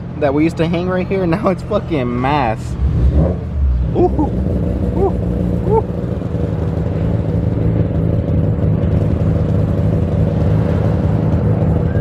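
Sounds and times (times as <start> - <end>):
car engine steady: 0.0 - 12.0
road noise inside car: 0.0 - 12.0.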